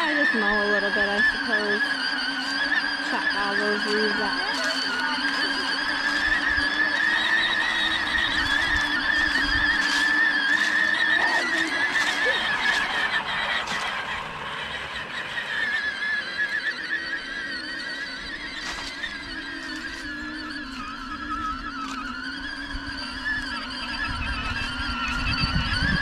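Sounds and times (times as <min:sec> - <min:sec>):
lawn mower whining: 0:00.0 - 0:26.0.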